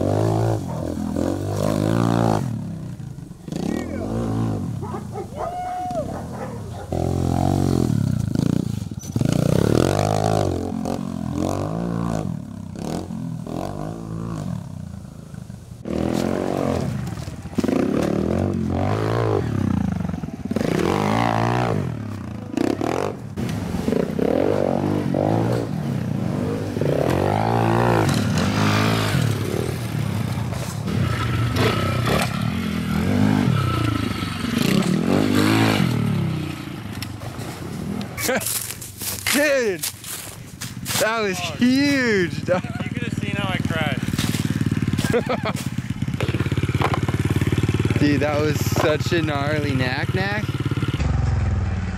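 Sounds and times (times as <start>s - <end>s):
small motorbike engine revving: 0.0s - 5.4s, 6.0s - 15.0s, 15.8s - 38.8s, 41.2s - 51.9s.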